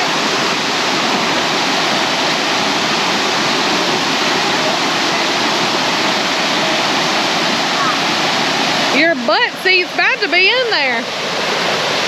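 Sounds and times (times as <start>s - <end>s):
creek water running: 0.0s - 12.0s
waterfall rushing: 0.0s - 12.0s.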